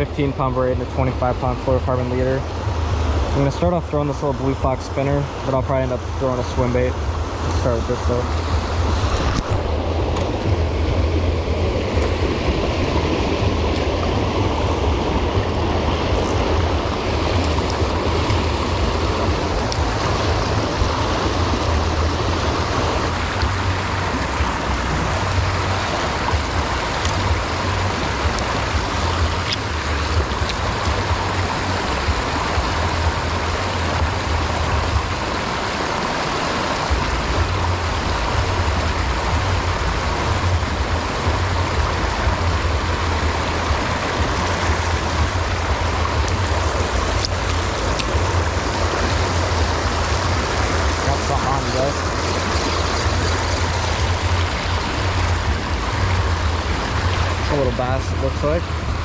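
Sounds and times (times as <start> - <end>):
low rumble: 0.0 - 35.4, 36.9 - 59.0
river water rushing: 0.0 - 59.0.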